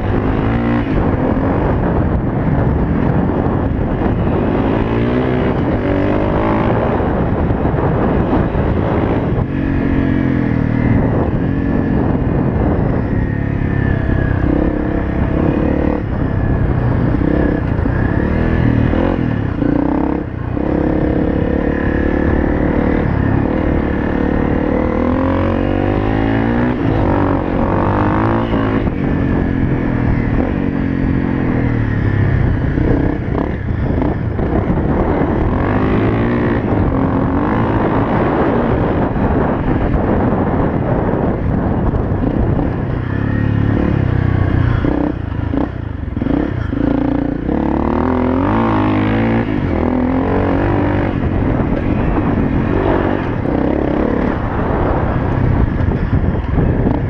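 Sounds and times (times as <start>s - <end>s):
motorbike engine: 0.0s - 57.0s.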